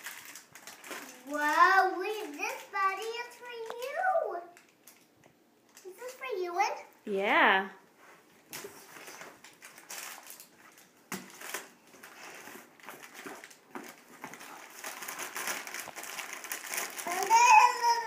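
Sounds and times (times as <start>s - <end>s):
wrappers and cardboard crinkling: 0.0s - 5.1s, 8.1s - 18.0s.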